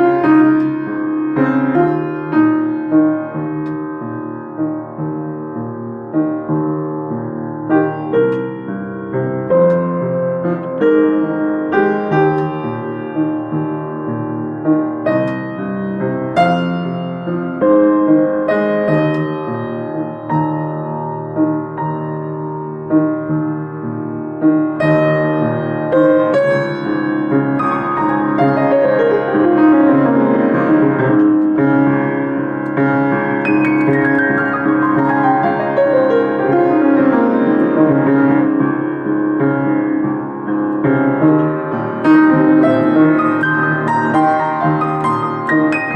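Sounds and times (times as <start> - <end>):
slow piano chords: 0.0 - 45.9.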